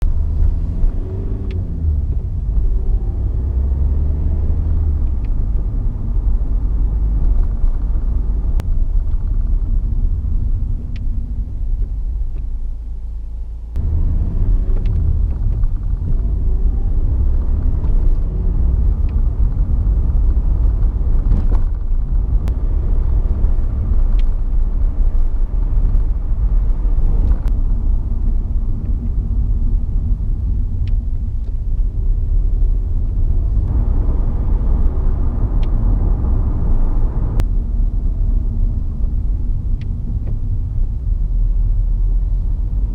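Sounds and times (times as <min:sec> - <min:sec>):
car engine accelerating through gears: 0:00.0 - 0:12.4, 0:13.7 - 0:42.9.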